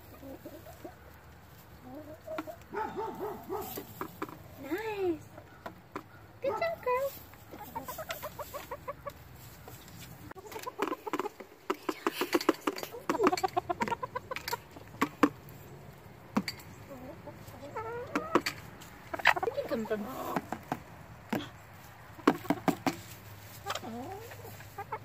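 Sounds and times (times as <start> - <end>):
hens clucking: 0.0 - 25.0
beaks tapping drumheads: 2.2 - 17.4, 18.0 - 25.0.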